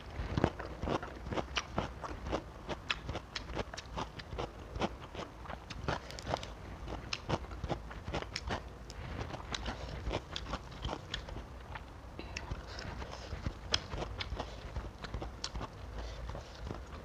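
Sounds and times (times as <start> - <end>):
crunching and chewing greens: 0.0 - 17.0.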